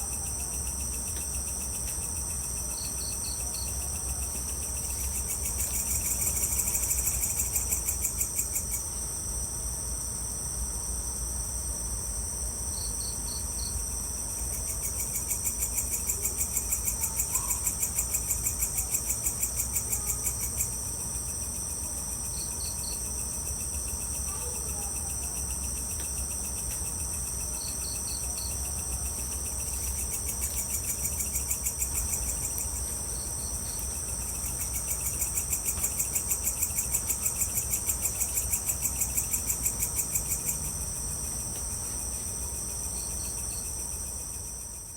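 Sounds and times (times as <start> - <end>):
high-pitched insect trilling: 0.0 - 9.0, 12.7 - 44.9
insect chirps: 0.0 - 11.4, 12.0 - 44.9.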